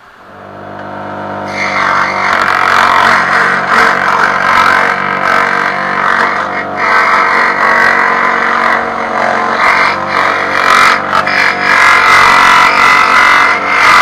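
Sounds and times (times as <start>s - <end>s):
scroll saw motor hum: 0.2s - 14.0s
saw blade cutting plastic sheet: 0.3s - 14.0s.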